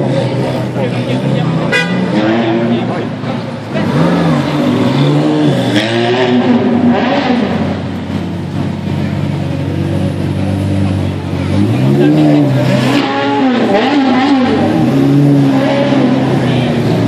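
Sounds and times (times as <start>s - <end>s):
car engines idling: 0.0s - 17.0s
car engines revving: 0.0s - 17.0s.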